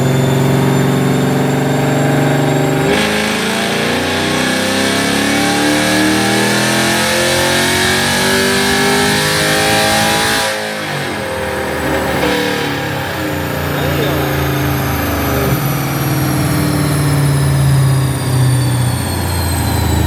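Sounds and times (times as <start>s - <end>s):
engine accelerating hard: 0.0s - 20.0s.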